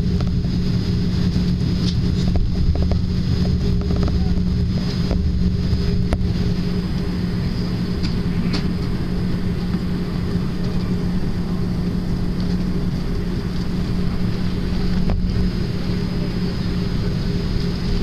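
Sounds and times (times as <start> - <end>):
faint high whine: 0.0 - 18.0
jet engines low hum: 0.0 - 18.0.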